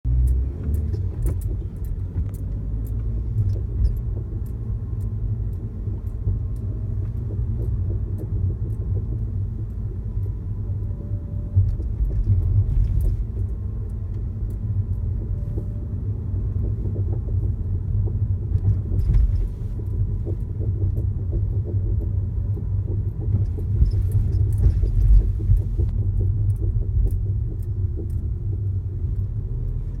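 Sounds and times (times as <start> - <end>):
car engine low rumble: 0.0 - 30.0
car interior rattling and knocking: 0.1 - 30.0.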